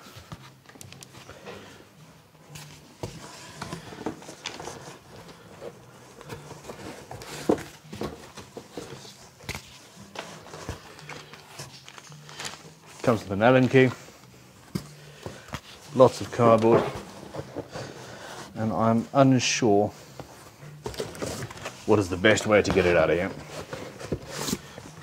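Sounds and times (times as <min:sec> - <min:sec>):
cardboard scraping and rustling: 0:02.6 - 0:14.0, 0:14.7 - 0:18.9, 0:20.2 - 0:25.0.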